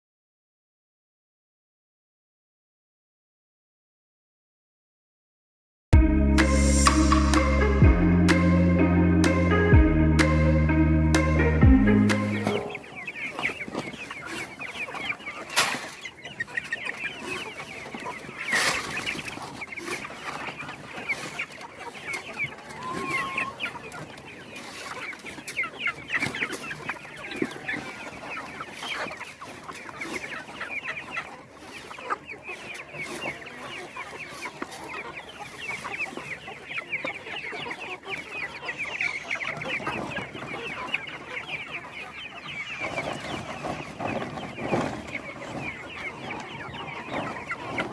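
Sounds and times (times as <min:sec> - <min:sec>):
chickens calling: 0:06.0 - 0:47.9.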